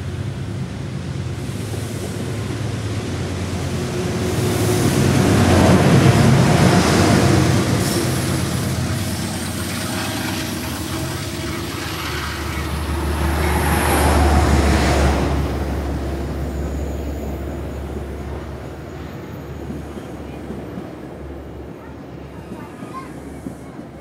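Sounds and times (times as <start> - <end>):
diesel locomotive engine hum: 0.0 - 24.0
train wheel and rail noise: 0.0 - 24.0.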